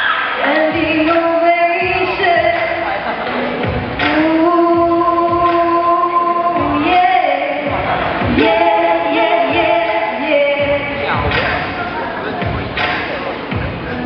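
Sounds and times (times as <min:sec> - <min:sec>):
girls singing a duet: 0:00.0 - 0:11.7.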